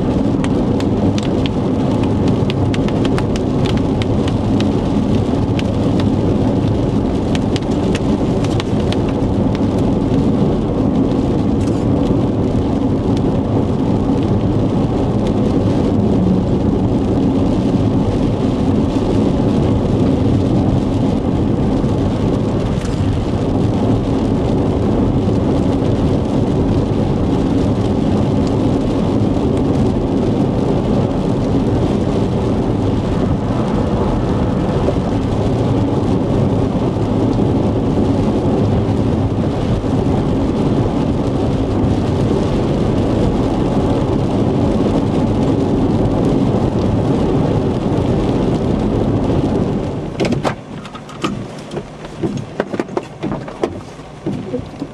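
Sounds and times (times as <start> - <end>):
road and wind noise in vehicle: 0.0 - 54.9.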